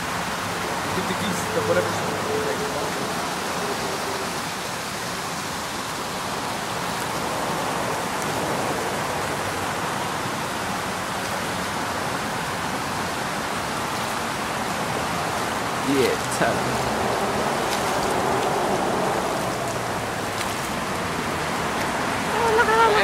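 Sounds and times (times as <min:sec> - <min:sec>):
creek running over stones: 0:00.0 - 0:23.0.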